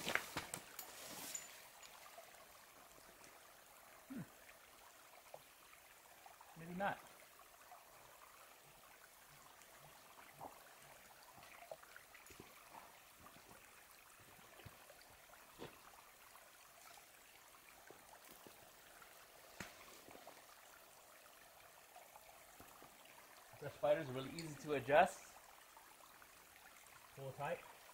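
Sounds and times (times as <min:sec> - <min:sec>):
faint steady hiss: 0:00.0 - 0:27.9.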